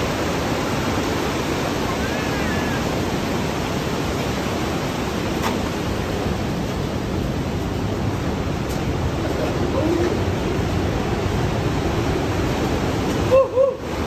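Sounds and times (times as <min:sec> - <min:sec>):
river rushing through gorge: 0:00.0 - 0:14.0.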